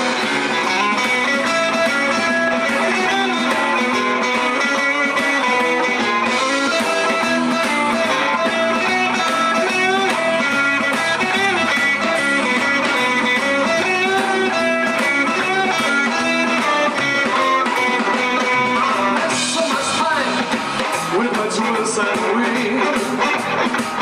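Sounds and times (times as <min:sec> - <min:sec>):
blues band playing: 0:00.0 - 0:24.0
electric guitar: 0:00.0 - 0:24.0.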